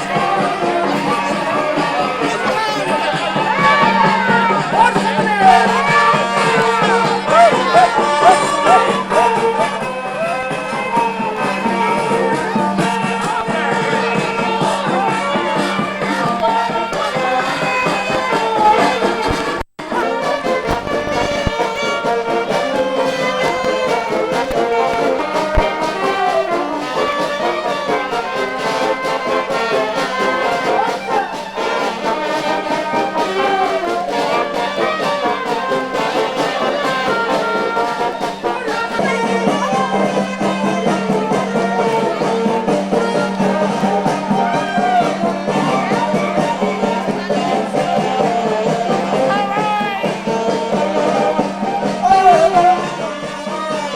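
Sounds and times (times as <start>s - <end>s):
brass music: 0.0s - 53.9s.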